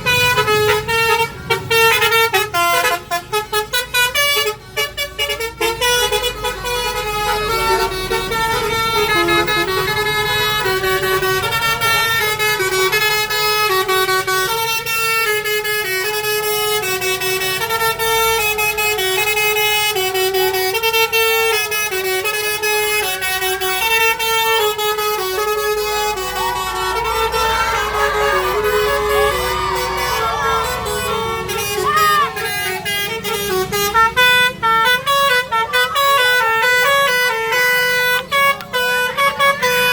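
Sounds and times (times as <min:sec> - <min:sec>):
bus multi-tone horn tune: 0:00.0 - 0:39.9.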